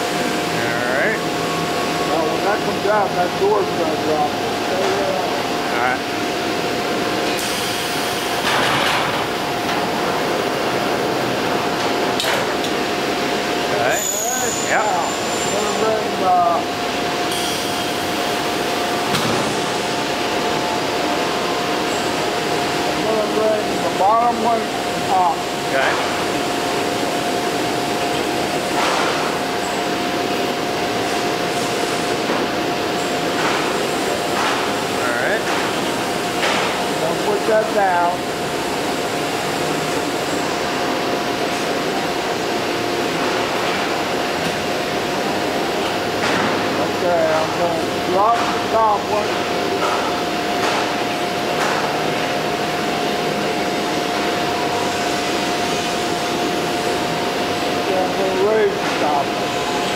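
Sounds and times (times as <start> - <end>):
machine humming: 0.0 - 59.9.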